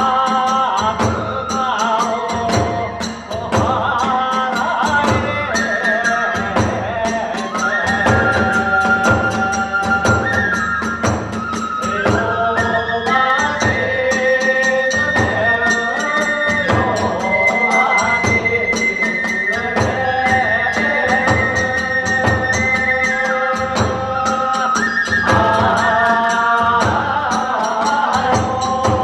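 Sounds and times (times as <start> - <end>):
bamboo flute melody: 0.0 - 29.0
drum beat: 0.0 - 29.0.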